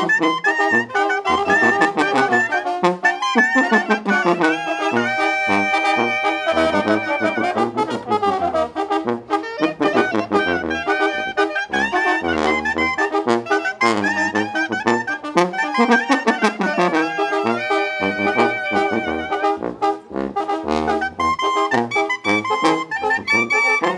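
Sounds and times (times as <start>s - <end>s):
trumpets trombones and saxophones: 0.0s - 23.9s.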